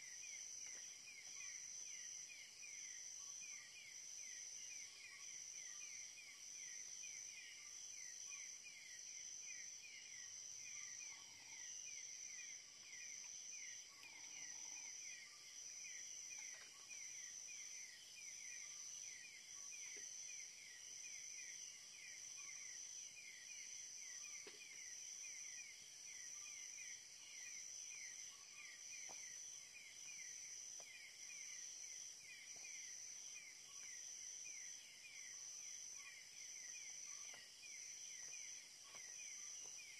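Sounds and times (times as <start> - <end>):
insect chirping: 0.0 - 39.9
insects trilling: 0.0 - 39.9.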